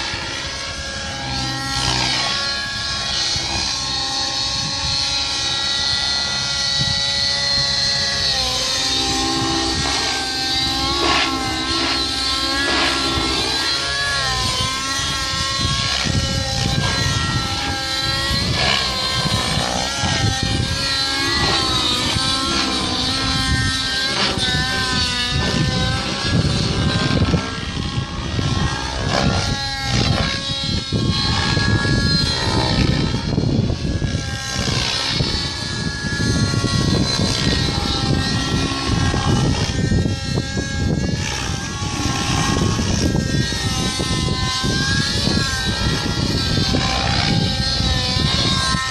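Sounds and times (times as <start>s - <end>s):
model helicopter motor and rotor whine: 0.0s - 48.9s
wind noise on microphone: 0.0s - 48.9s.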